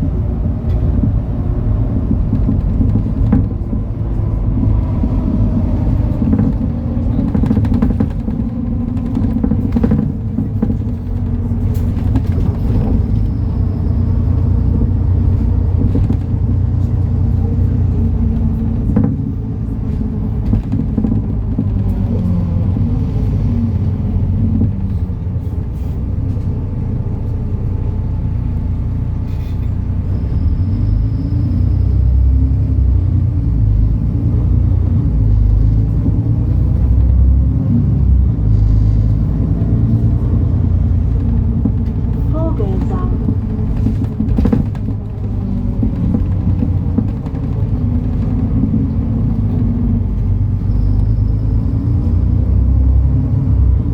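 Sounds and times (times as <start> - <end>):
diesel bus engine rumble: 0.0 - 53.9.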